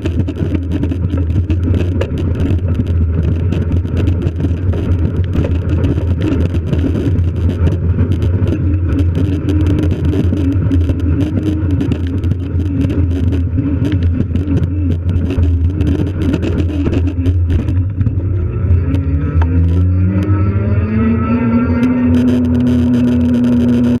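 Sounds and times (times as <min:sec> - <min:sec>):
bike tyres crunching snow: 0:00.0 - 0:20.1
wavering hum: 0:00.0 - 0:24.0.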